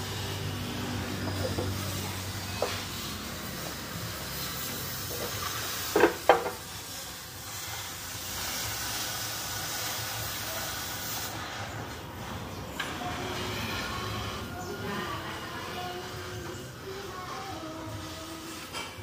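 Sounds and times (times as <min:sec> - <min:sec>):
cutting torch hissing: 0:00.0 - 0:18.8.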